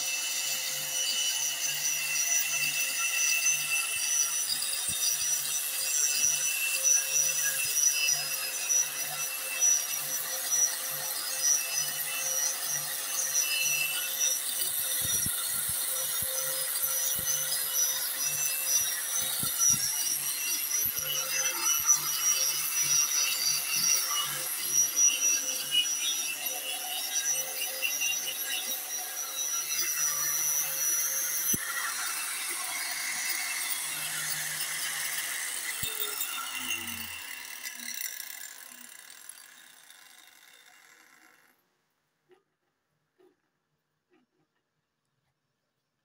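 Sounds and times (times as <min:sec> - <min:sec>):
rotary cutter whining and grinding: 0:00.0 - 0:41.6.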